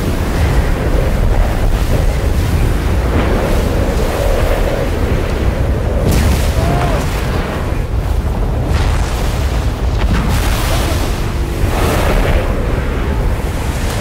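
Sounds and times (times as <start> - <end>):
deep rumble: 0.0 - 14.0.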